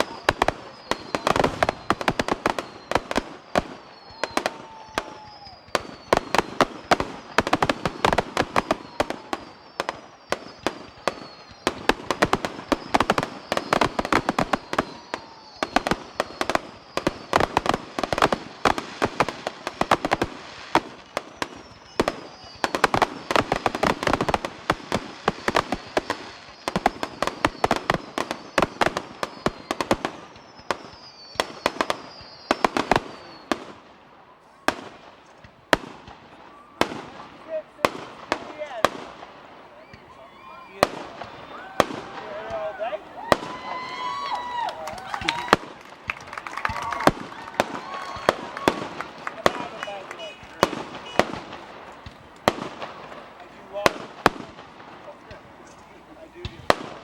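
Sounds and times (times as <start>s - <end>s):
falling whistles: 0.0s - 24.4s, 25.0s - 35.4s, 36.3s - 39.0s, 39.7s - 52.4s
fireworks bangs: 0.0s - 57.0s.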